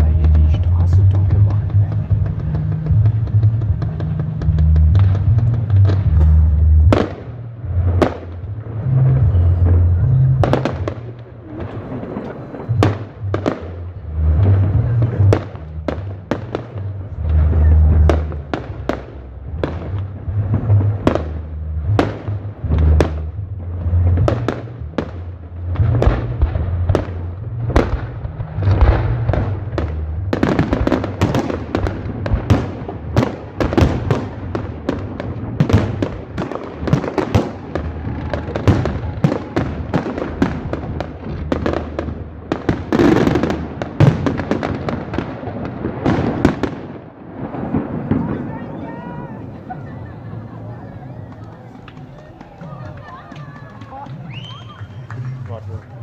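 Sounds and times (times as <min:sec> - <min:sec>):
firecrackers banging: 0:00.0 - 0:56.0
fireworks deep booms: 0:00.0 - 0:56.0.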